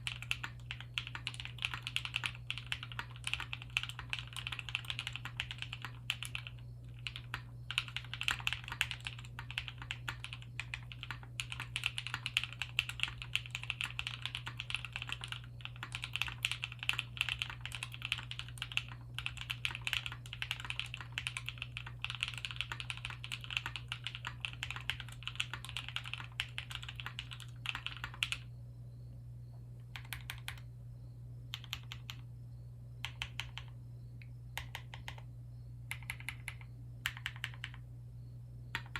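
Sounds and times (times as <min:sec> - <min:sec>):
mechanical keyboard typing: 0:00.0 - 0:28.5, 0:29.8 - 0:30.7, 0:31.5 - 0:32.2, 0:33.0 - 0:33.8, 0:34.6 - 0:35.2, 0:35.9 - 0:37.8
steady low hum: 0:00.0 - 0:38.9.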